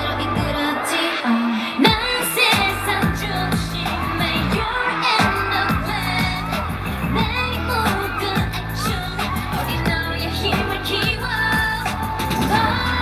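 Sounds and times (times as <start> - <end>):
bass-driven dance-pop music: 0.0 - 13.0
group singing: 0.0 - 13.0.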